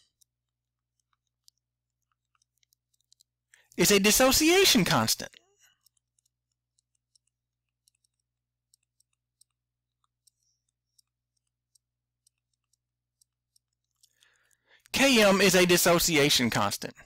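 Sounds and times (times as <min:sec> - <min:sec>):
soft clicks: 0:00.0 - 0:04.4, 0:05.3 - 0:15.8.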